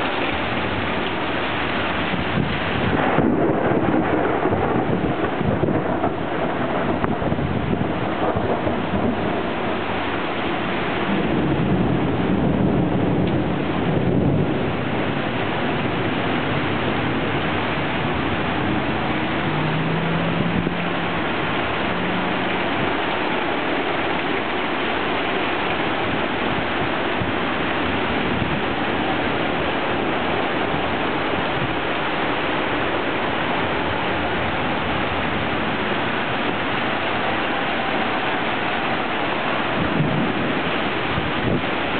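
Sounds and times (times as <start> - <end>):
gusting wind: 0.0 - 41.9
heavy rain downpour: 0.0 - 41.9.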